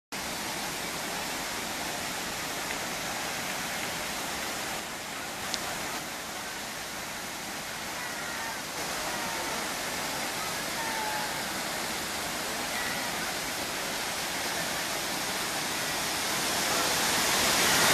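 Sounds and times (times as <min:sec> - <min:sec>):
waterfall rushing: 0:00.2 - 0:17.9.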